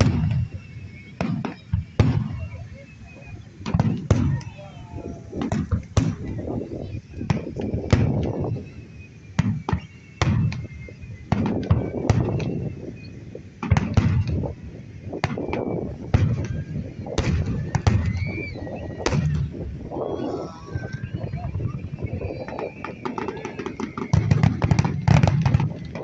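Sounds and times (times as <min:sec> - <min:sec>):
deep firework booms: 0:00.0 - 0:02.7, 0:03.6 - 0:26.0
firework bangs and crackles: 0:00.0 - 0:26.0.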